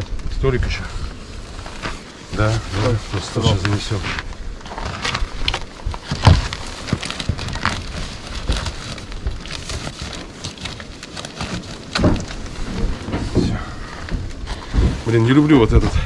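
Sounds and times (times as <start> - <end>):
fabric cover rustling and crackling: 0.0 - 16.0.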